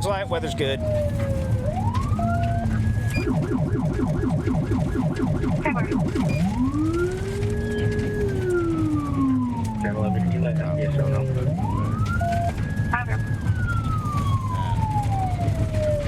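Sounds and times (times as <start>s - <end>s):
low vehicle rumble: 0.0s - 16.0s
police siren wail and yelp: 0.0s - 16.0s.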